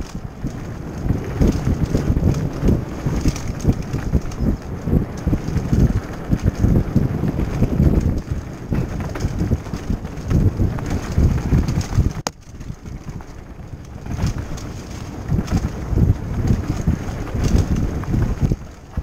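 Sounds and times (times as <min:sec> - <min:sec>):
bike rattling over dirt: 0:00.0 - 0:19.0
wind buffeting microphone: 0:00.0 - 0:19.0.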